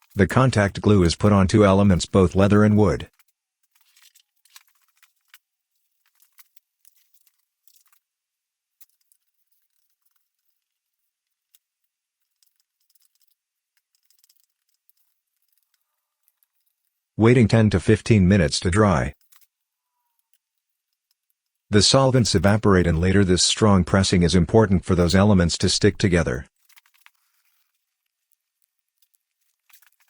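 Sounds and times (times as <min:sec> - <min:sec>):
faint ticks and scrapes of handling: 0:00.0 - 0:17.2, 0:18.4 - 0:23.0, 0:24.9 - 0:30.0.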